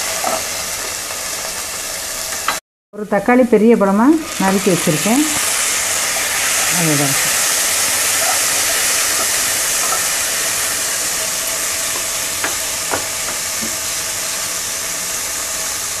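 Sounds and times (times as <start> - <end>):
vegetables sizzling in hot oil: 0.0 - 2.6, 3.6 - 16.0.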